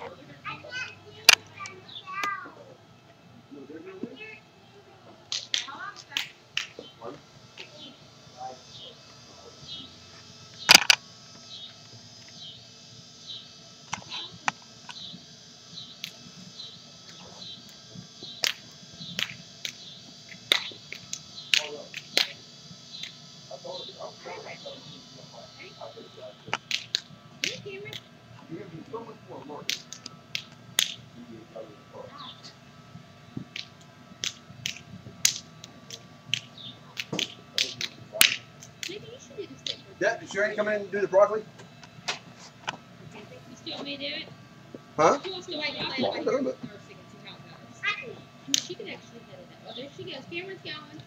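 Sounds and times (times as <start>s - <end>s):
insects droning: 0.0s - 51.0s
low steady background noise: 0.0s - 51.0s.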